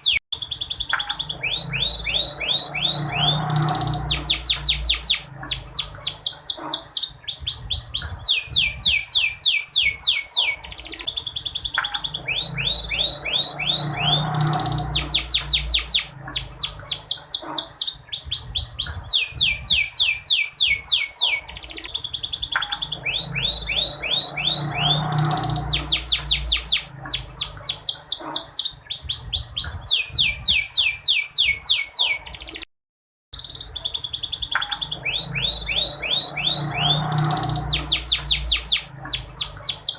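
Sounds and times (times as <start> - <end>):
canary singing trills: 0.0 - 32.7, 33.4 - 39.9.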